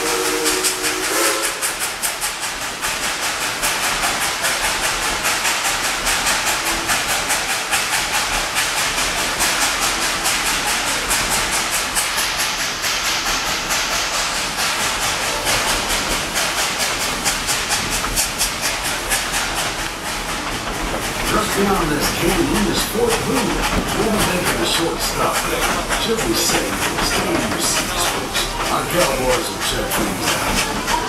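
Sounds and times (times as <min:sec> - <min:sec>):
steady hiss of steam: 0:00.0 - 0:31.0
steam locomotive chuffing: 0:00.0 - 0:31.0
train cars clattering over rails: 0:00.0 - 0:31.0.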